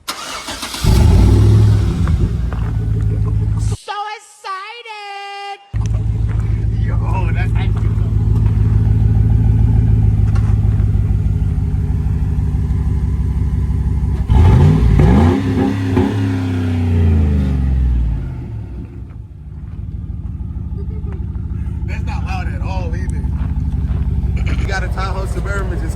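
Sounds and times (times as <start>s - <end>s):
engine idling and revving: 0.0s - 3.8s, 5.8s - 25.9s.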